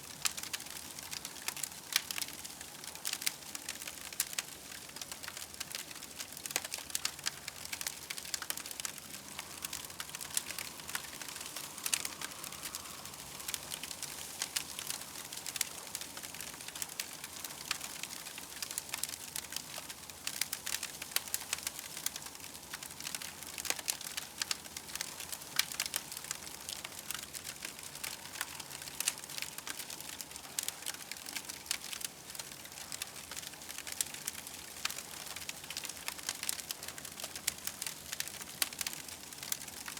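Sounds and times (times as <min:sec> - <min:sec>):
steady hiss of fire: 0:00.0 - 0:39.9
campfire crackling and popping: 0:00.1 - 0:39.9.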